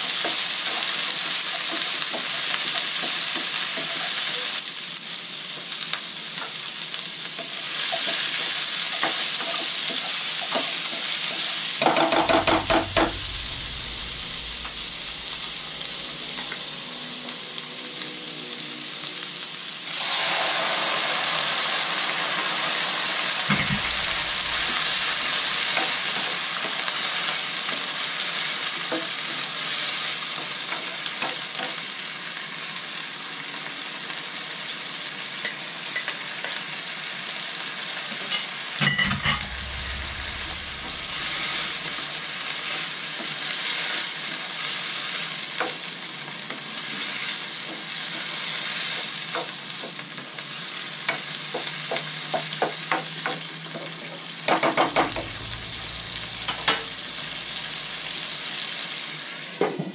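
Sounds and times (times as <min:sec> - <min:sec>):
vegetables sizzling in a wok: 0:00.0 - 0:59.9.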